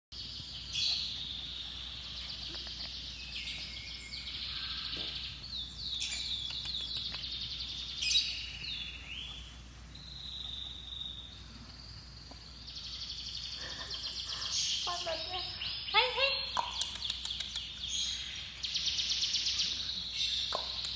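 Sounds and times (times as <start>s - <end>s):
birds chirping and trilling: 0.2s - 20.9s.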